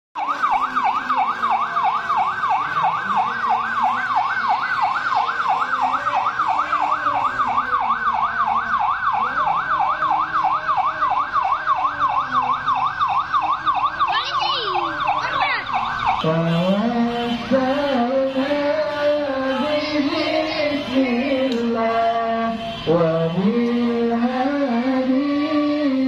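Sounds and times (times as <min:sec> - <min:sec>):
police siren yelping: 0:00.2 - 0:26.0.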